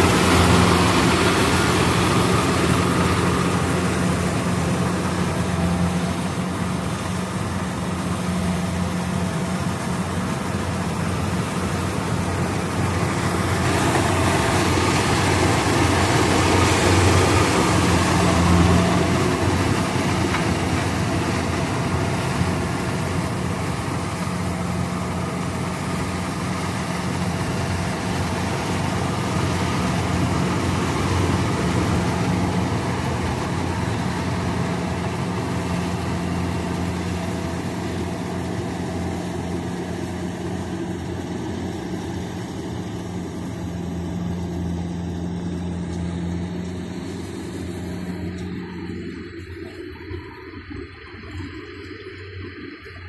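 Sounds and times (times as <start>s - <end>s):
combine harvester diesel engine: 0.0s - 53.0s.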